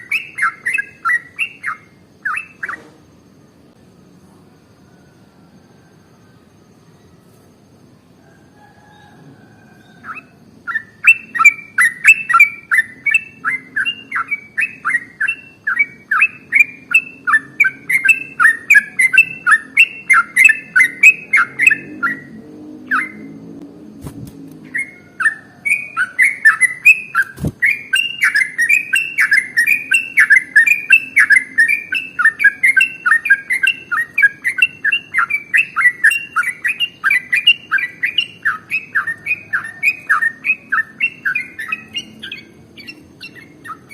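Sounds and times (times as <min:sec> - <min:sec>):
bird singing chattering notes: 0:00.0 - 0:02.8, 0:10.0 - 0:23.4, 0:24.6 - 0:43.9.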